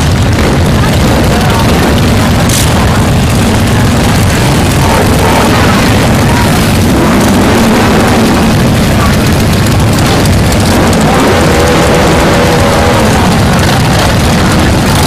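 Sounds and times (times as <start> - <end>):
motorcycles riding past: 0.0 - 15.0.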